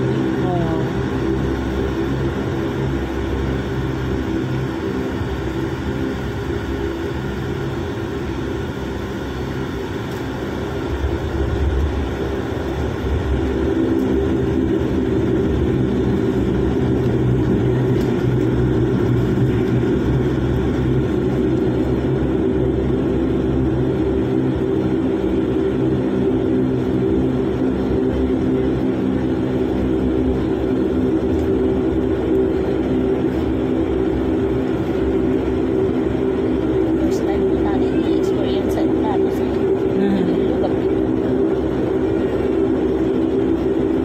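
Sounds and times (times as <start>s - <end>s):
airliner engines humming in cabin: 0.0s - 44.0s.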